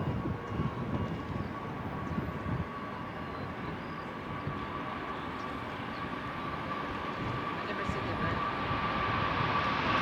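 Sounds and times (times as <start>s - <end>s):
distant jet engines whining: 0.0s - 10.0s.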